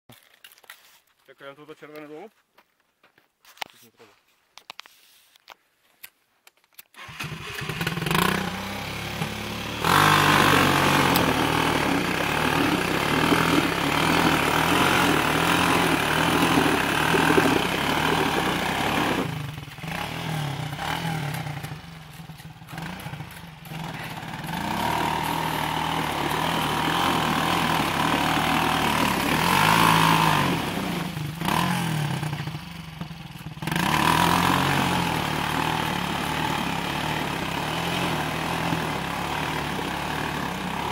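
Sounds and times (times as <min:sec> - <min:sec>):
atv engine revving: 0:07.0 - 0:40.9.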